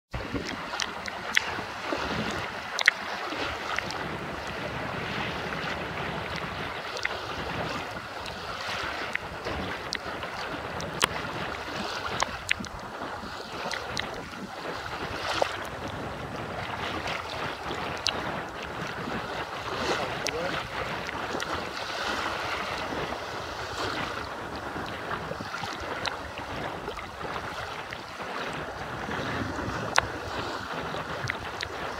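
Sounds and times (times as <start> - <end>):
waves washing and splashing: 0.1 - 31.9
wind buffeting microphone: 0.1 - 31.9.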